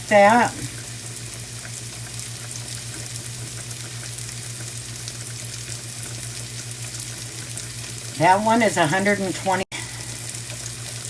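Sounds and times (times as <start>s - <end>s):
steaks sizzling on a grill: 0.2s - 11.0s.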